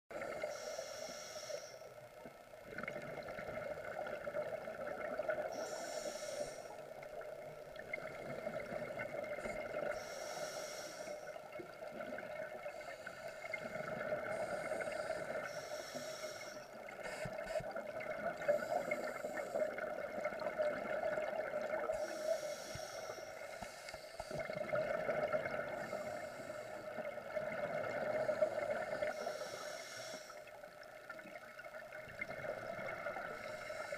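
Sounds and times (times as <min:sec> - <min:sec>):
steady underwater hum: 0:00.1 - 0:33.9.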